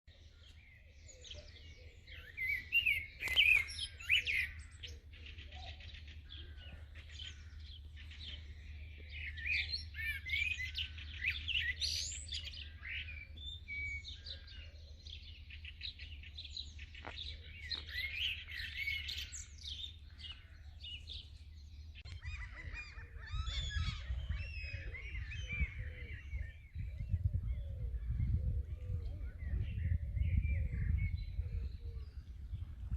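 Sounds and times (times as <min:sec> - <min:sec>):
songbirds singing: 0:00.0 - 0:32.9.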